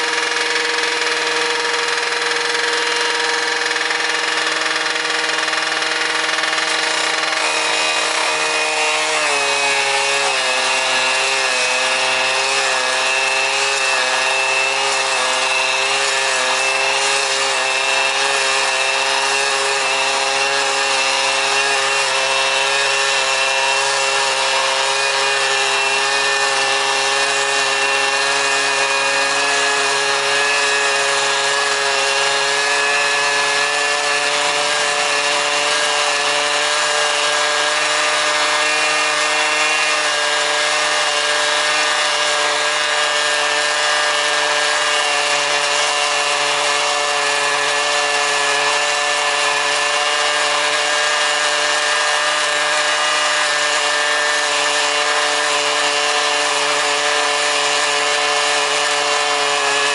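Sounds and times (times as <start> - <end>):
cutting disc grinding steel: 0.0 - 59.9.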